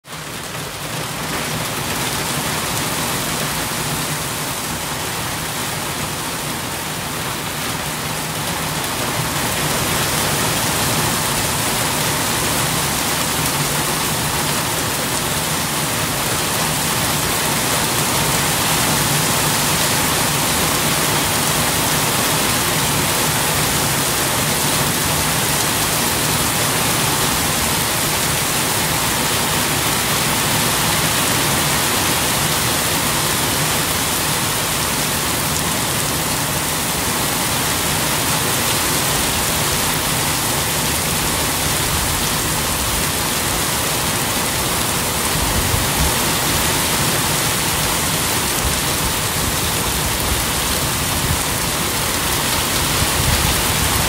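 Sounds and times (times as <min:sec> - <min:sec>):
rain on wet paving stones: 0:00.1 - 0:54.0.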